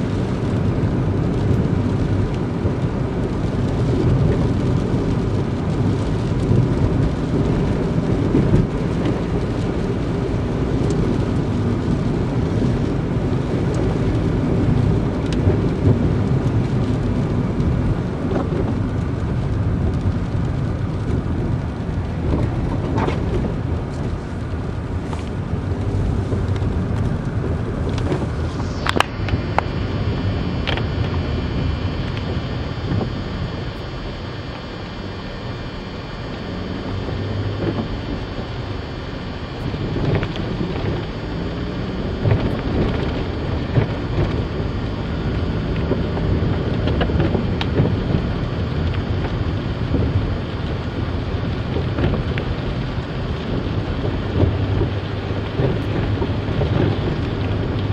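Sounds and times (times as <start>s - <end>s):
car road and engine noise: 0.0s - 57.9s.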